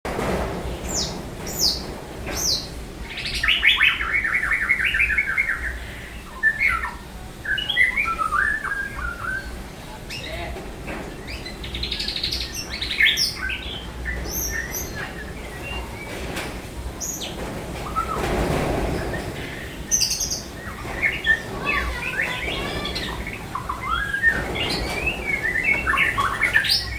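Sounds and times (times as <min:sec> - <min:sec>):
songbird singing: 0:00.7 - 0:26.9.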